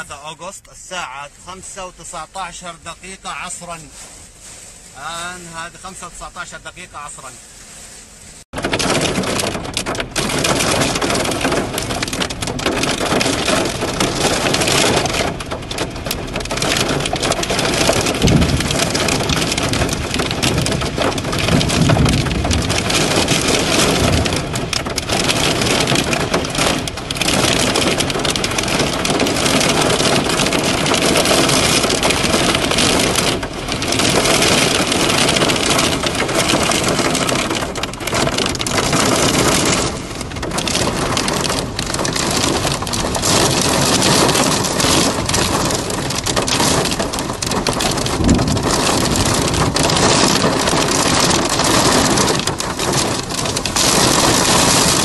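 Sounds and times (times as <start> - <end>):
low rumbles: 0.0 - 55.0
heavy rain pouring: 8.5 - 55.0.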